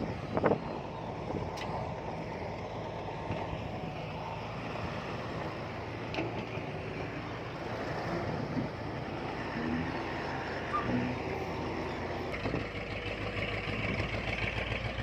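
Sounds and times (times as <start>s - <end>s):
heavy diesel machinery engine: 0.0s - 15.0s.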